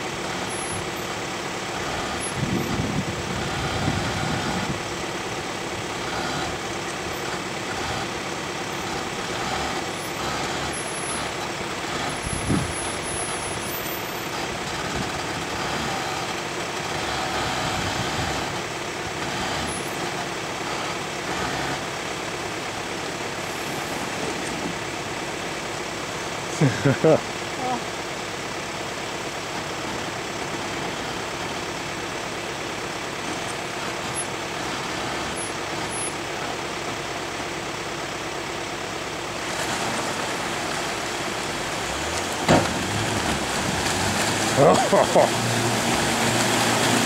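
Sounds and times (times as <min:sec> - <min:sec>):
engine running at low revs: 0:00.0 - 0:47.0.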